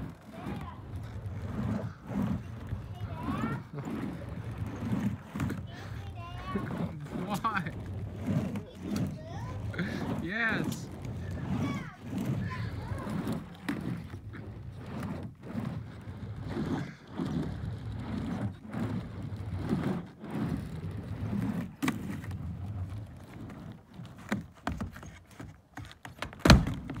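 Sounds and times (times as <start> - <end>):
skateboard clacks: 0.0 - 27.0
skateboard wheels rolling on ramp: 0.0 - 27.0.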